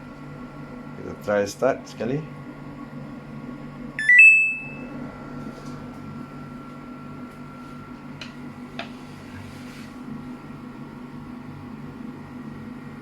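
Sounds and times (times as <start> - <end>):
washing machine low hum: 0.0 - 13.0.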